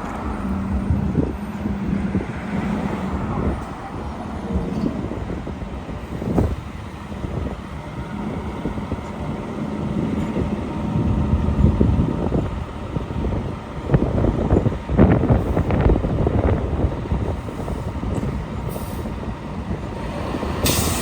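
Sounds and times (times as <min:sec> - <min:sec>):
vehicle engines passing: 0:00.0 - 0:21.0.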